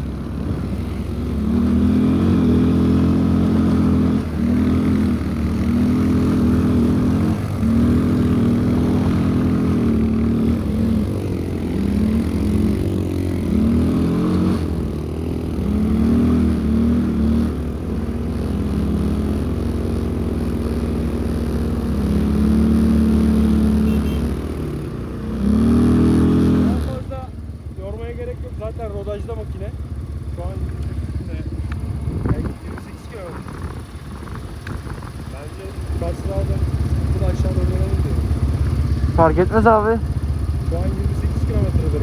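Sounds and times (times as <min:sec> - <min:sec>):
atv engine revving: 0:00.0 - 0:42.0.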